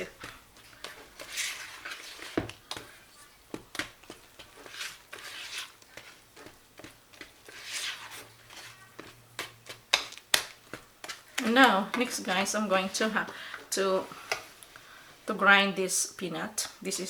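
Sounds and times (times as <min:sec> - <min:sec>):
batter scraping and swishing in bowl: 0:00.0 - 0:14.8.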